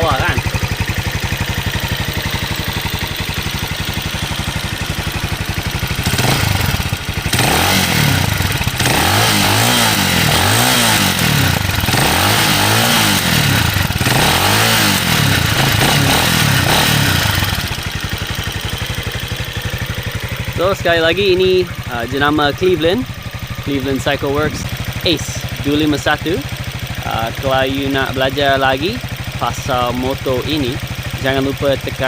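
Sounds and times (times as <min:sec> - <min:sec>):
engine throttle revs: 0:00.0 - 0:19.3, 0:20.5 - 0:32.0
motorcycle engine idling: 0:00.0 - 0:32.0.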